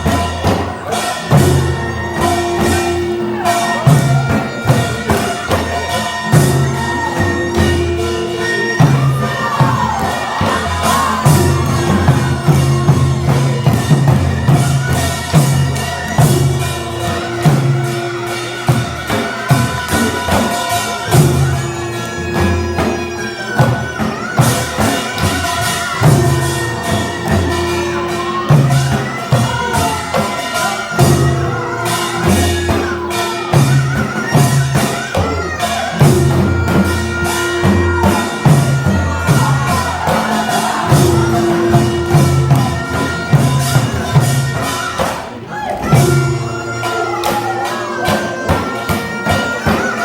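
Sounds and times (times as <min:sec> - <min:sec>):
drums beating: 0:00.0 - 0:50.0
jangling metal percussion: 0:00.0 - 0:50.0
wavering wind instrument melody: 0:00.0 - 0:50.0.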